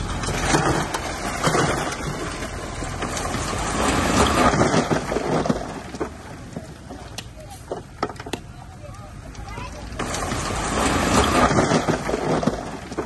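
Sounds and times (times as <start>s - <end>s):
bulldozer diesel engine rumbling: 0.0s - 13.0s
dirt and stone crunching: 0.0s - 13.0s.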